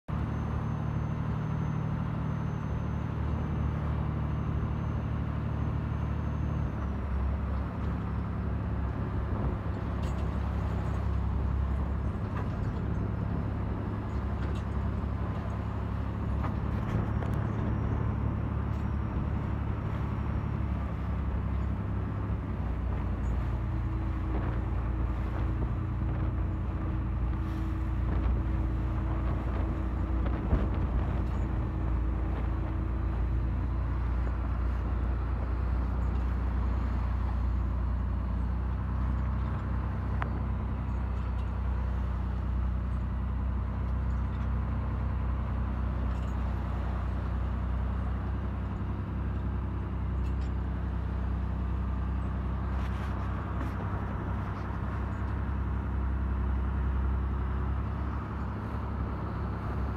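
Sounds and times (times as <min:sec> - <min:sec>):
boat engine droning: 0:00.1 - 0:59.9.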